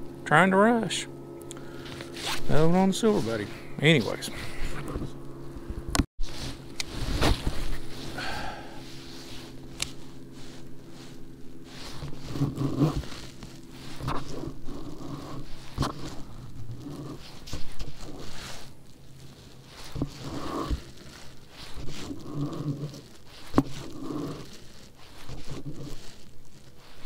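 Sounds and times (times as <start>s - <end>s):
electric trolling motor humming: 0.0s - 27.0s.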